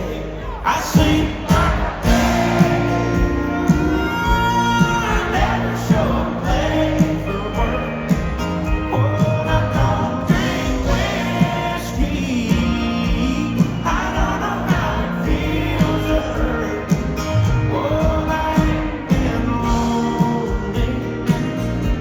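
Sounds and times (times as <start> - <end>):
live country band music: 0.0 - 22.0.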